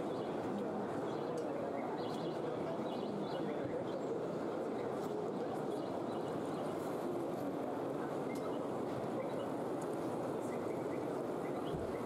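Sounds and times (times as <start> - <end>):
murmur of crowd in hall: 0.0 - 12.0.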